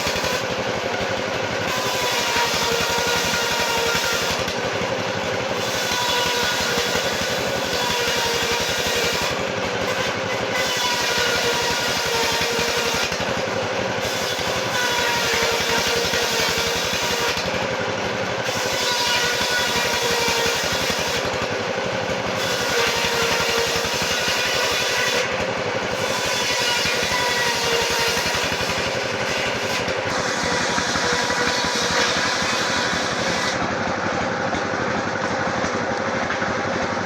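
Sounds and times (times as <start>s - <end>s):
sawmill machinery drone: 0.0s - 37.0s.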